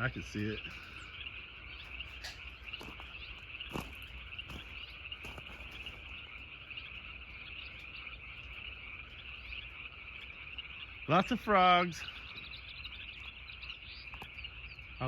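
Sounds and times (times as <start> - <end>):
chorus of frogs calling: 0.0 - 15.0.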